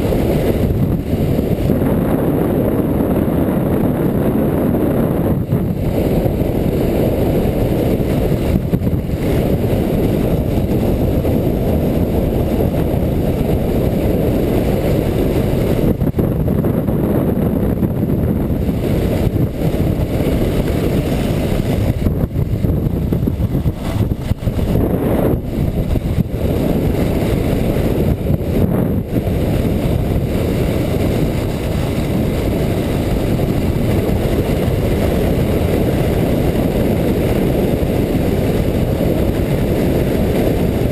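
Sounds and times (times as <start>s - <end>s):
sled sliding on snow: 0.0s - 40.9s
wind rush on microphone: 0.0s - 40.9s.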